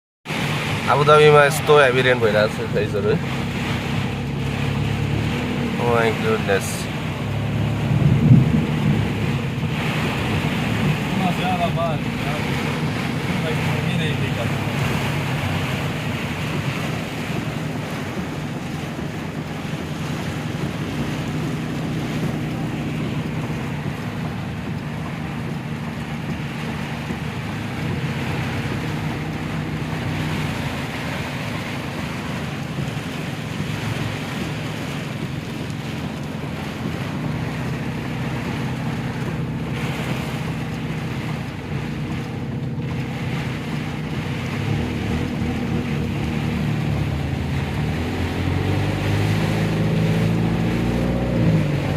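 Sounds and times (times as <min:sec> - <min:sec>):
heavy rain falling: 0:00.3 - 0:51.9.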